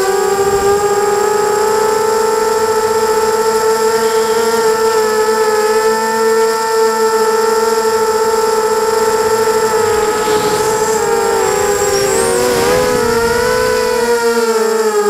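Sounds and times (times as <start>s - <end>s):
drone motors whining: 0.0s - 14.8s.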